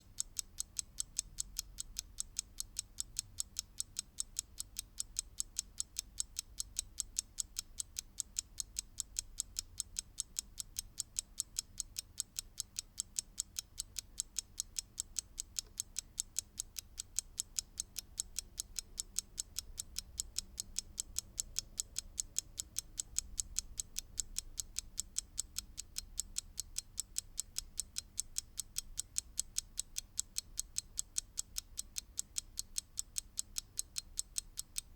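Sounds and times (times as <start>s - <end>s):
mechanical clock ticking: 0.0s - 34.9s.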